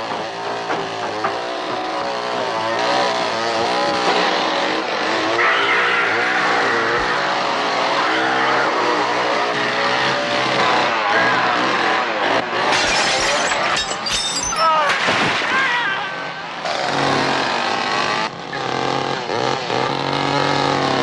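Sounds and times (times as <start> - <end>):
chainsaw revving: 0.0 - 12.7, 16.6 - 21.0.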